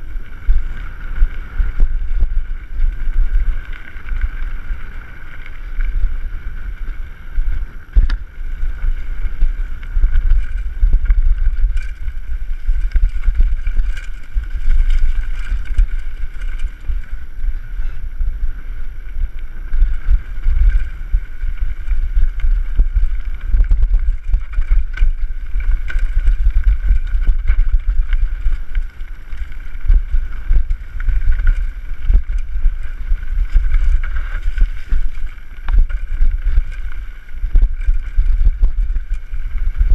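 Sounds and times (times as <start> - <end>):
bike knocking and rattling: 0.0 - 39.9
wind buffeting microphone: 0.0 - 39.9.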